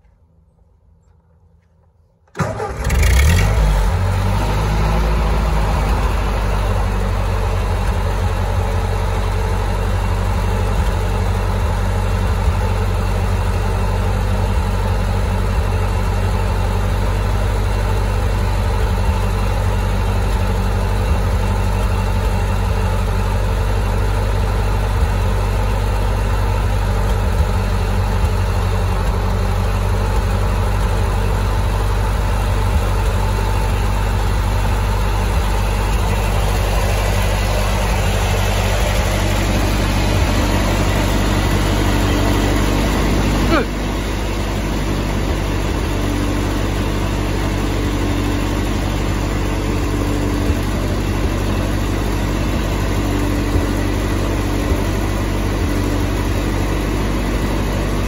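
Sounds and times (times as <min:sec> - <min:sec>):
tractor engine starting and running: 0:00.0 - 0:58.0.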